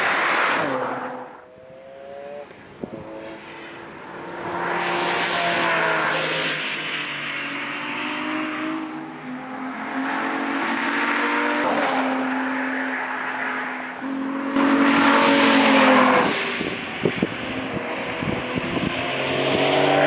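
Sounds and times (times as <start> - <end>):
sports car engine accelerating: 0.2 - 11.8, 14.0 - 20.0.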